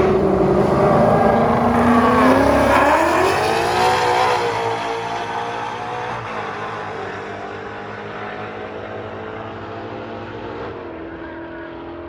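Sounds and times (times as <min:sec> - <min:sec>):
racing car engine: 0:00.0 - 0:12.0.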